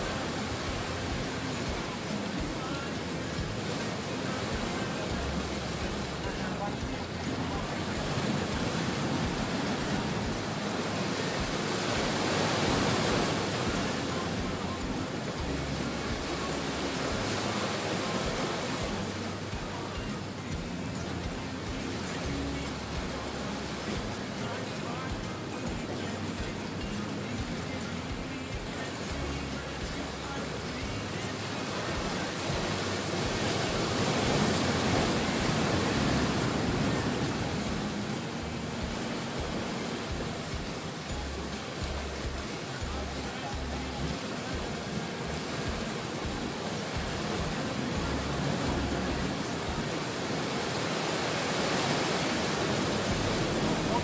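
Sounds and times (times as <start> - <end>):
ocean surf breaking on shore: 0.0 - 54.0.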